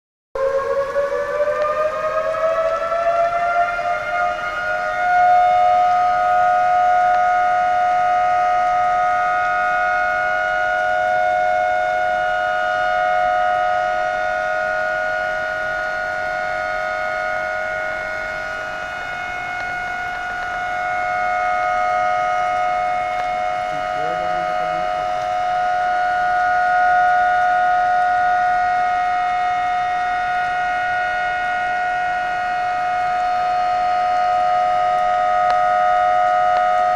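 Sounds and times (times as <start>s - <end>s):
warning siren wailing: 0.4s - 36.9s.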